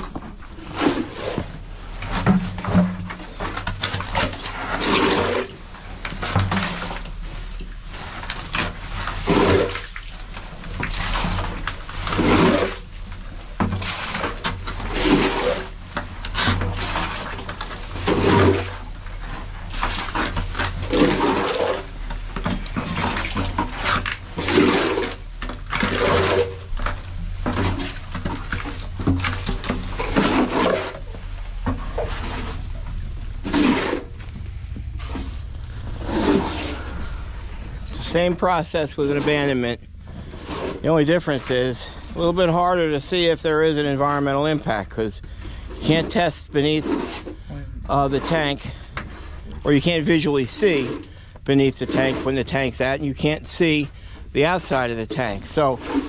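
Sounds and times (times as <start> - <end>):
plastic scoop scraping sludge: 0.0 - 56.0
sludge sloshing and splashing: 0.0 - 56.0.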